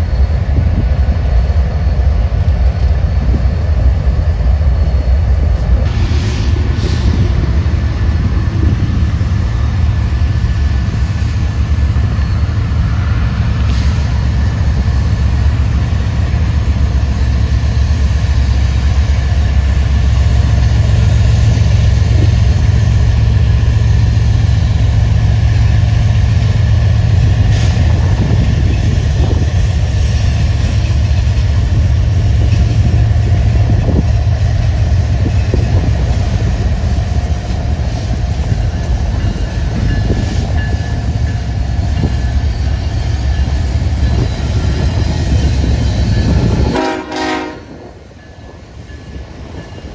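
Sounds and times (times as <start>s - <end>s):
train rumbling past: 0.0s - 49.9s.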